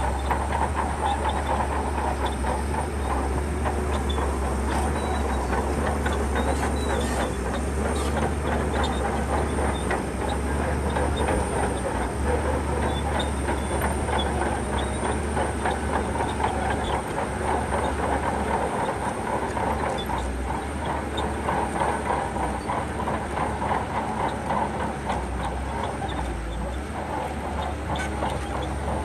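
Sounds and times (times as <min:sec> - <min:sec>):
diesel engine droning: 0:00.0 - 0:29.0
steel tracks rattling: 0:00.0 - 0:29.0.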